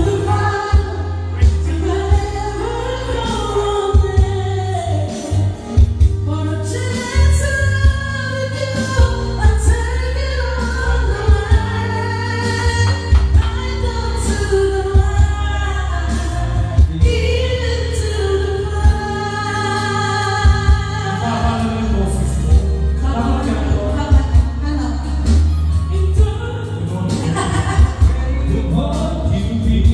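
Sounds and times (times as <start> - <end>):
backing music with heavy bass: 0.0 - 29.9
woman singing into microphone: 0.0 - 29.9.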